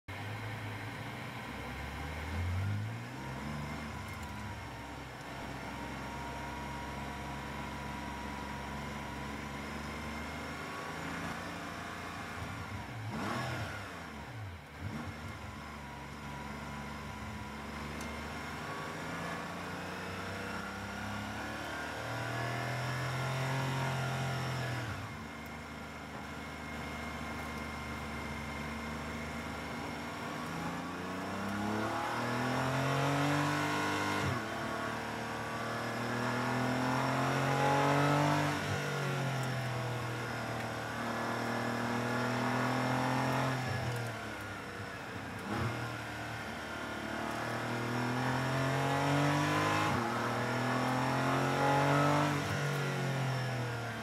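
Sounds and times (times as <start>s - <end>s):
car engine accelerating: 0.1s - 54.0s.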